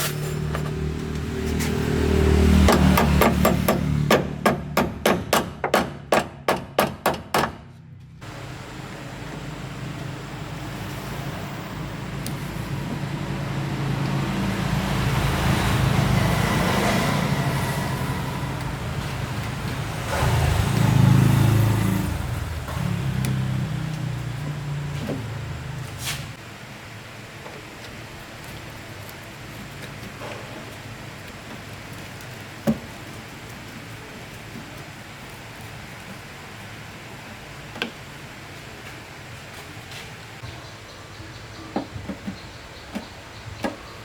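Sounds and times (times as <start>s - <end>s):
vehicle engine driving: 0.0s - 5.3s, 7.6s - 40.5s.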